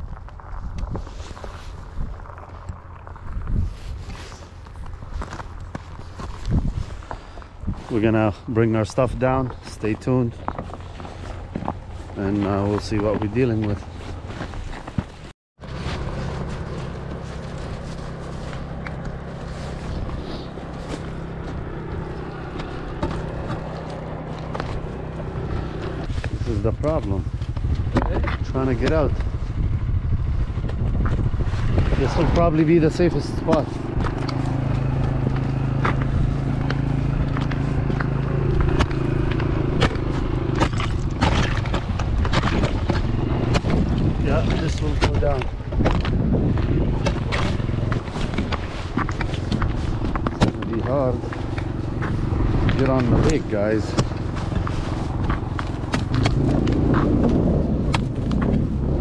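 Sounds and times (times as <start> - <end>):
footsteps crunching on ice: 0.0 - 28.8, 31.1 - 59.0
vehicle engine humming: 0.0 - 59.0.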